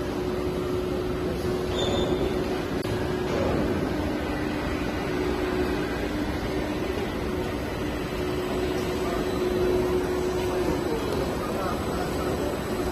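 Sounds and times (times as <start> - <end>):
pipe extrusion machine whirring: 0.0 - 12.9.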